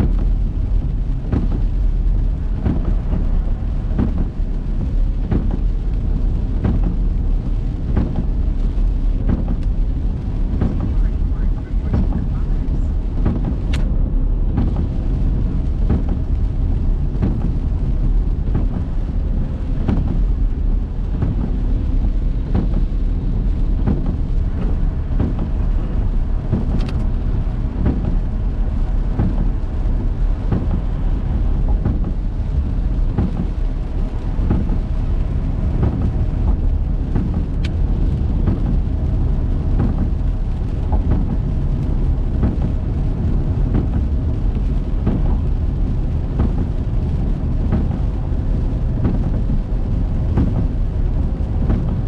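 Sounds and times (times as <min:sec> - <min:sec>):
car engine and road noise: 0:00.0 - 0:52.0
raindrops striking car: 0:00.0 - 0:52.0.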